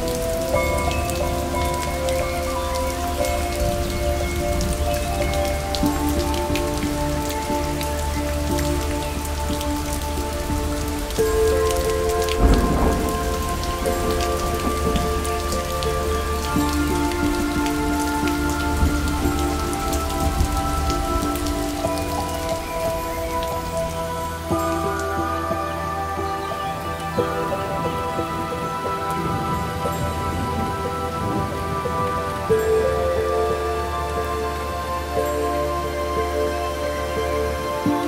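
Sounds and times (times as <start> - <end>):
soft background music: 0.0 - 38.0
steady rain: 0.0 - 38.0.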